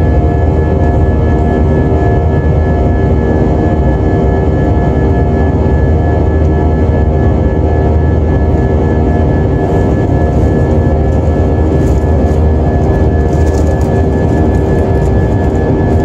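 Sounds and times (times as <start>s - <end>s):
jet engine rumble in cabin: 0.0s - 16.0s
thin steady whine: 0.0s - 16.0s.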